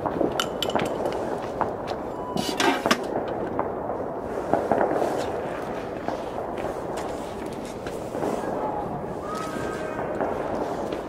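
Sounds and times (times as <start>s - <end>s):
firework bangs and crackles: 0.0s - 11.0s.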